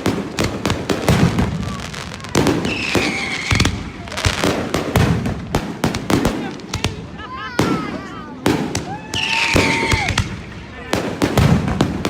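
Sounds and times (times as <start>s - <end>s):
whistling firework: 0.0s - 5.4s, 7.6s - 12.0s
fireworks bangs and crackling: 0.0s - 12.0s.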